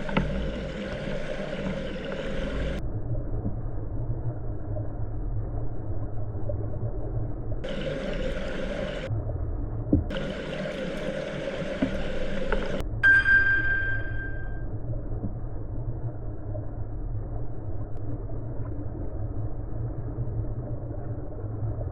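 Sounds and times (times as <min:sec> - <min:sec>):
underwater stream rumble: 0:00.0 - 0:21.9.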